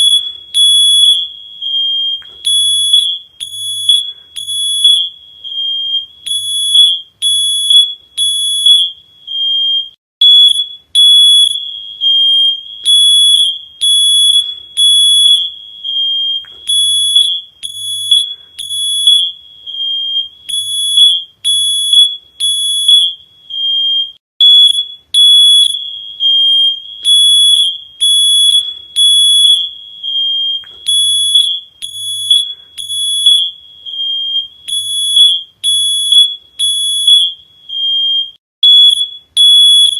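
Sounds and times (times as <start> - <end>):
smoke alarm beeping: 0.0 - 39.9.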